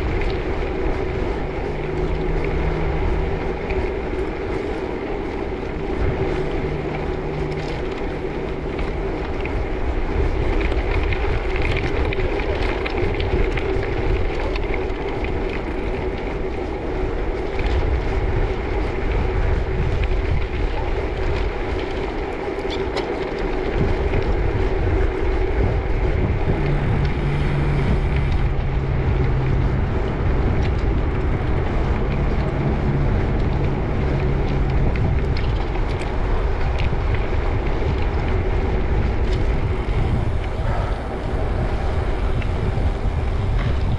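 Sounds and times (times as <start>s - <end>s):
bicycle tyres rolling on gravel: 0.0s - 43.9s
low steady hum: 0.0s - 43.9s
wind rushing over microphone: 0.0s - 43.9s.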